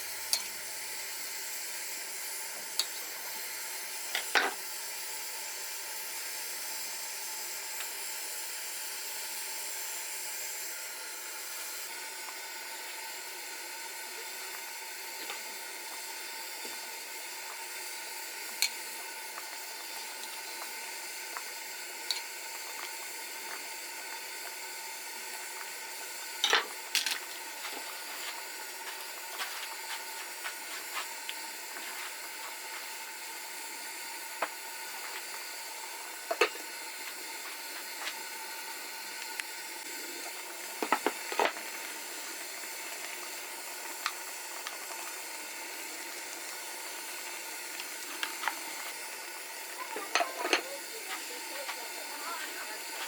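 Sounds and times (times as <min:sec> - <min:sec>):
food sizzling in a pan: 0:00.0 - 0:53.0.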